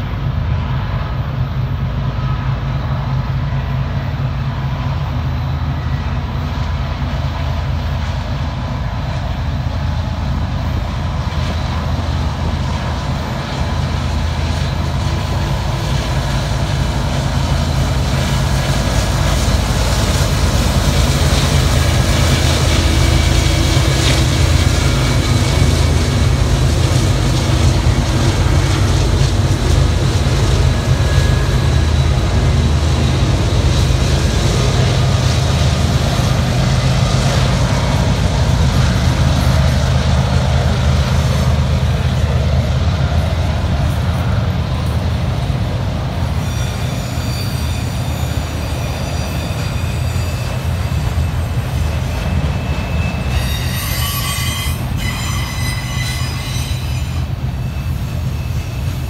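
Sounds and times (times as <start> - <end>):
freight train locomotive engine drone: 0.0 - 59.0.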